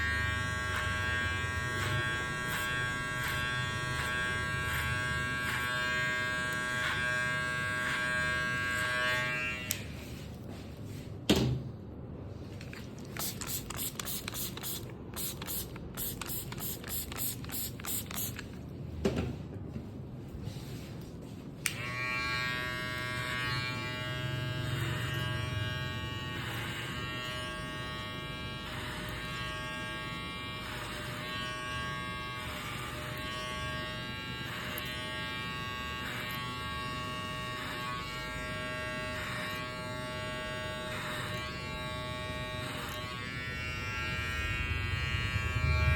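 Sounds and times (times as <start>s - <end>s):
hair clipper buzzing: 0.0s - 10.0s, 13.2s - 18.4s, 21.7s - 45.9s.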